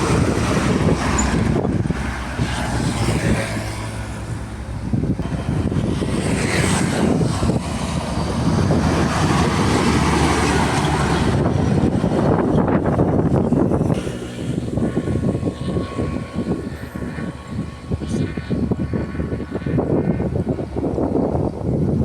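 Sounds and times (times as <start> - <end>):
trucks driving past: 0.0 - 22.0.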